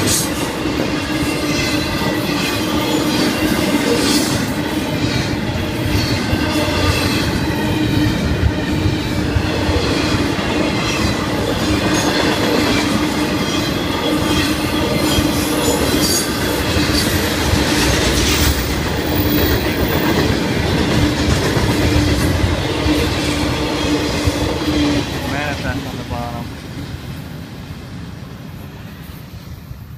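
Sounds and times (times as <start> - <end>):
freight cars rolling on rails: 0.0 - 29.9.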